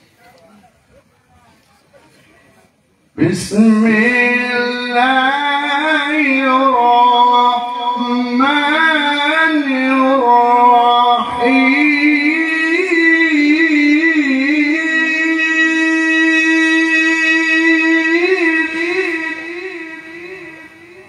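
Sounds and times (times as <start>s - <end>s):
man reciting melodically: 3.2s - 21.0s.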